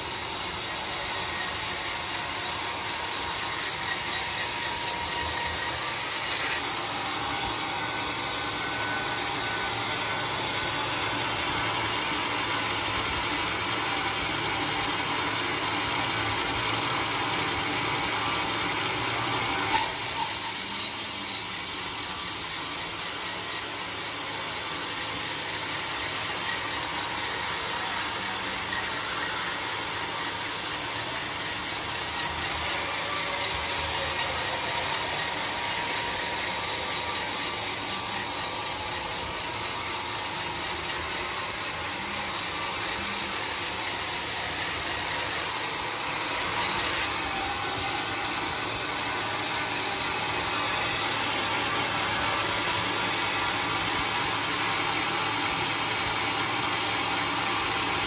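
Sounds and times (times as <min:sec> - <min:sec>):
bandsaw sawmill running: 0:00.0 - 0:58.0.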